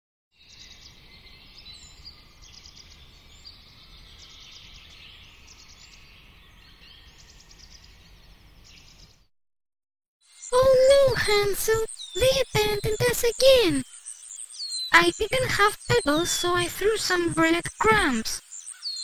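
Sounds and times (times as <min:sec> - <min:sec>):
birds chirping and trilling: 0:00.4 - 0:09.3, 0:10.2 - 0:19.0.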